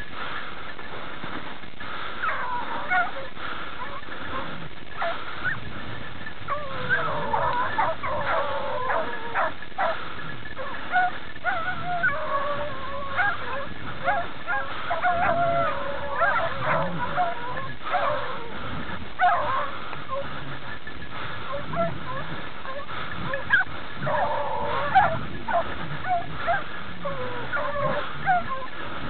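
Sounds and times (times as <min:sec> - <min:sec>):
hounds baying and howling: 0:01.8 - 0:29.0.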